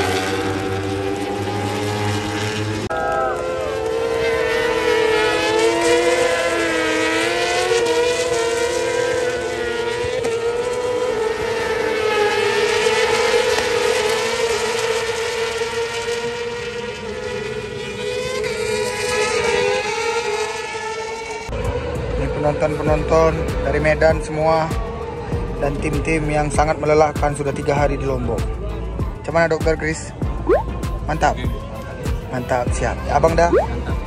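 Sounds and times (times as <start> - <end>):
racing motorcycles at high revs: 0.0 - 28.6, 32.1 - 34.0.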